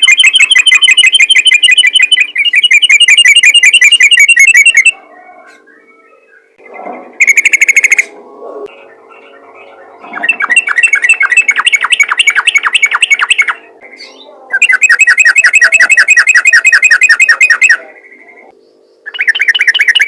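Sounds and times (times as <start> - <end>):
bird chattering song: 0.0 - 20.0.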